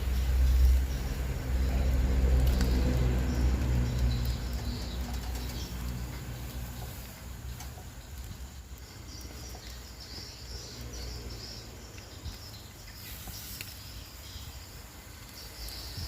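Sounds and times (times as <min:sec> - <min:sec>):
steady low rumble: 0:00.0 - 0:12.9
high chirping of small animals: 0:00.0 - 0:16.0.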